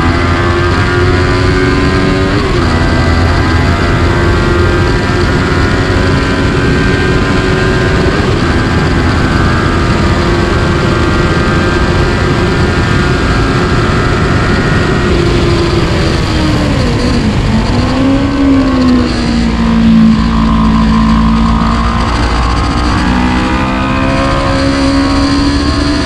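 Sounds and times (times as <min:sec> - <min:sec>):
heavy wind noise: 0:00.0 - 0:26.0
motorcycle engine running: 0:00.0 - 0:26.0.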